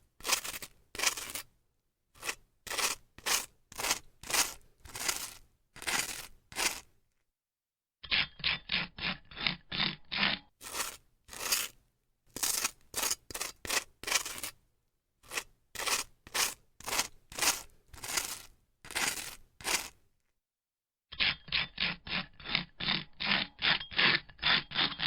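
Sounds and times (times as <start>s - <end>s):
knife scraping butter on toast: 0.2s - 1.5s, 2.2s - 6.9s, 8.1s - 14.6s, 15.2s - 20.0s, 21.2s - 25.0s.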